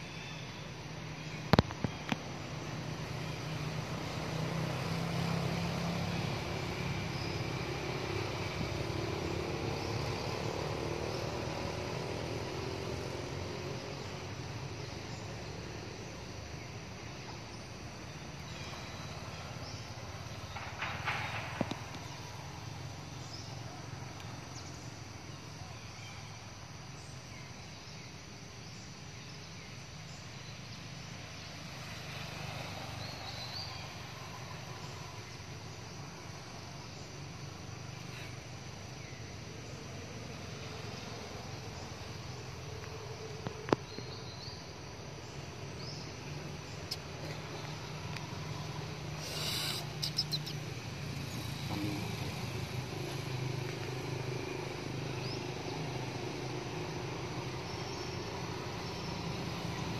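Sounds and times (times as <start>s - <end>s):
vehicle engine rumbling: 0.0s - 25.2s, 30.1s - 59.9s.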